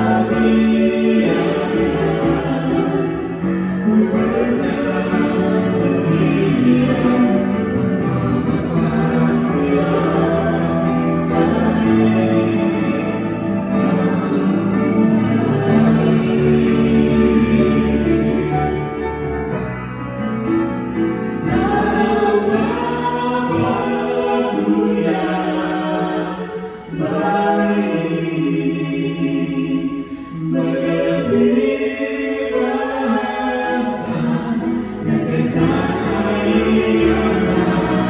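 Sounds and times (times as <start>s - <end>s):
group singing gospel song: 0.0s - 18.8s, 21.2s - 38.0s
musical backing: 0.0s - 38.0s.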